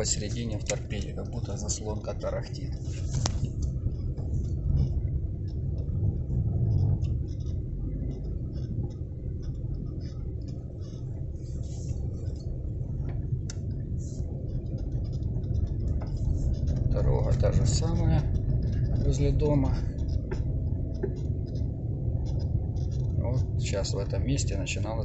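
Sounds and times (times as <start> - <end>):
car engine rumble from inside cabin: 0.0 - 25.0
faint ticks: 0.0 - 25.0.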